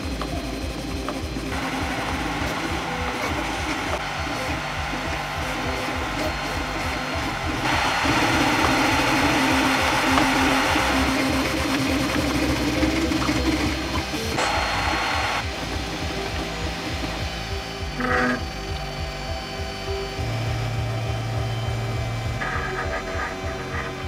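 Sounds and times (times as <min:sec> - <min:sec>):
hiss: 0:00.0 - 0:20.0
background music with beat: 0:00.0 - 0:24.0
stepper motors buzzing: 0:00.0 - 0:24.0.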